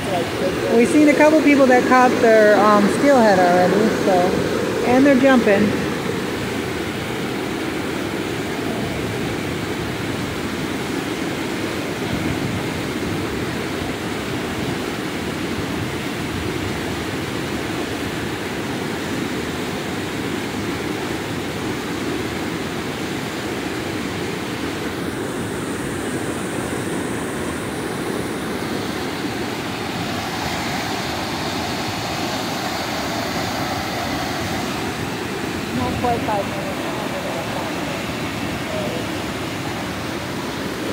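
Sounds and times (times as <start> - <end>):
river water rushing over weir: 0.0 - 40.9.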